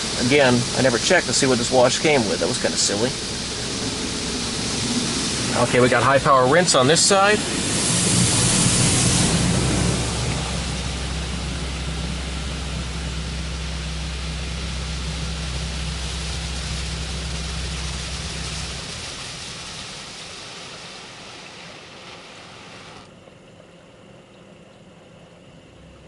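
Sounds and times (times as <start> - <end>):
water spraying against car: 0.0 - 23.1
low steady hum: 0.0 - 26.0.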